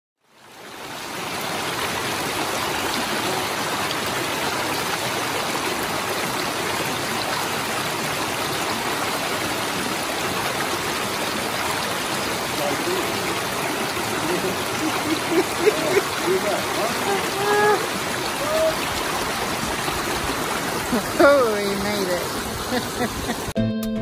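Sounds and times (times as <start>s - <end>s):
creek rushing over stones: 0.2s - 23.6s.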